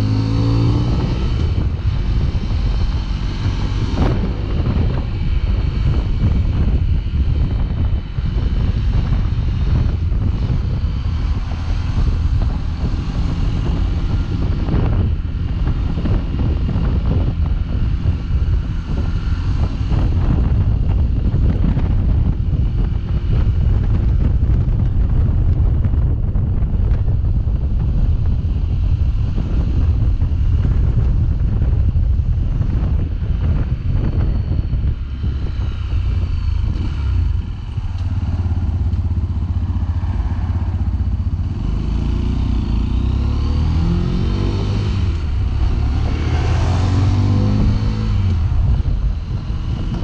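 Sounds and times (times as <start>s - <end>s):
motorcycle engine rumbling: 0.0s - 50.0s
wind buffeting microphone: 0.0s - 50.0s.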